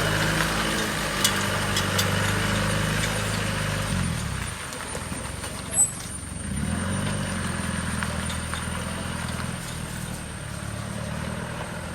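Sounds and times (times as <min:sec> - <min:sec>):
engine running low rumble: 0:00.0 - 0:11.9.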